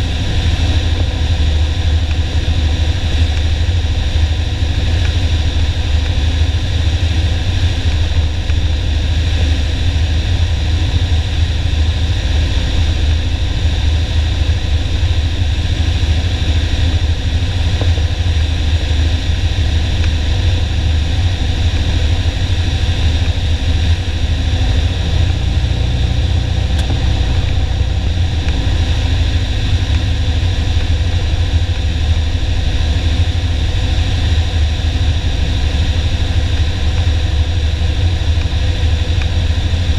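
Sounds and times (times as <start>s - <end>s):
airplane engine drone in cockpit: 0.0s - 39.9s.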